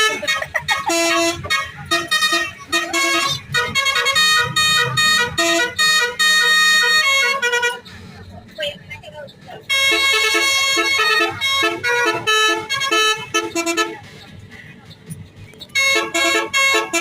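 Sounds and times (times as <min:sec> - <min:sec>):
multi-tone bus air horn tune: 0:00.0 - 0:08.0, 0:09.6 - 0:14.2, 0:15.7 - 0:17.0.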